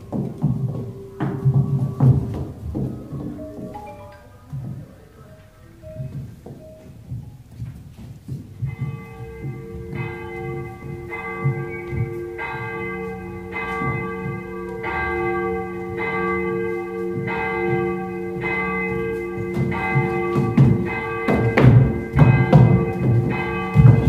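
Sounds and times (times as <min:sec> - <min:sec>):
bells tolling: 0:00.0 - 0:24.0.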